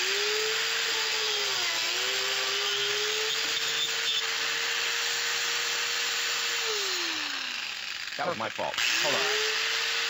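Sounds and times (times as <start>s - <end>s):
circular saw cutting wood: 0.0s - 10.0s.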